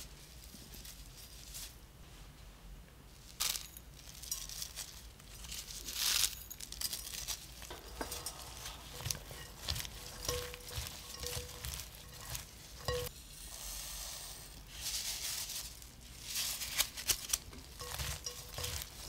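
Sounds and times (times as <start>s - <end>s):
bean sprouts rustling: 0.0s - 1.8s, 3.2s - 13.1s, 14.6s - 19.0s.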